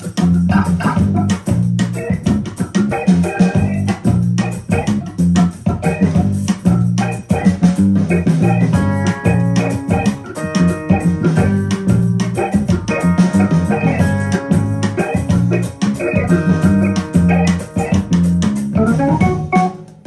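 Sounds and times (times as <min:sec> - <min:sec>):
music over loudspeakers: 0:00.0 - 0:20.0.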